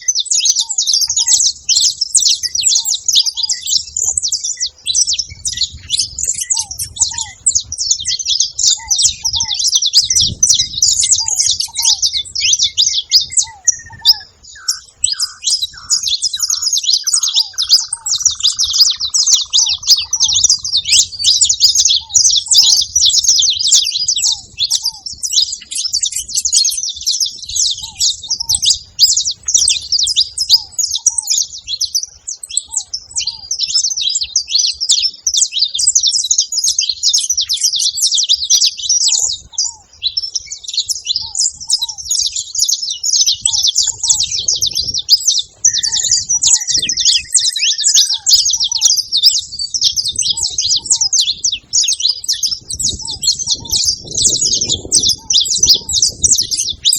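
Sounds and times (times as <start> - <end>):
low down-slurred bird notes: 0.0 - 34.6, 39.1 - 56.9
finches chirping and chattering: 0.0 - 56.9.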